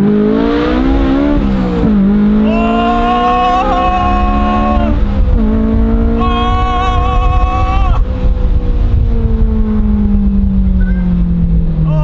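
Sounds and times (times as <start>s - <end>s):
car engine revving on a dyno: 0.0s - 10.2s.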